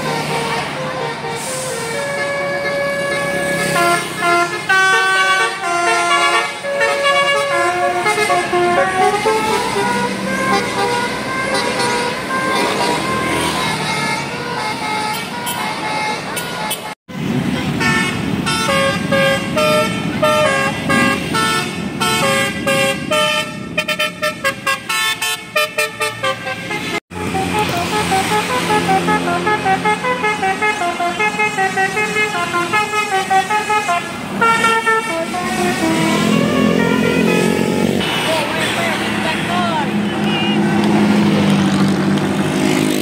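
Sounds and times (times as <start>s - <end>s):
musical bus air horn: 0.0s - 38.4s.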